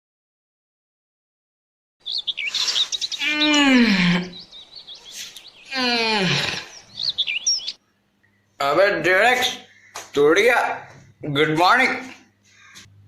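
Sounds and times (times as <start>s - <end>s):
birds chirping: 2.0s - 13.0s.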